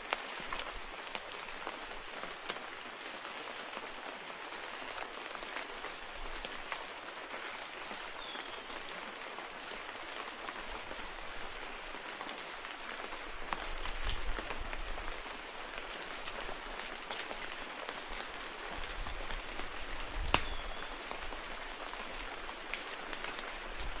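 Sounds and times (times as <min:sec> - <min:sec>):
rain falling on vegetation: 0:00.0 - 0:24.0.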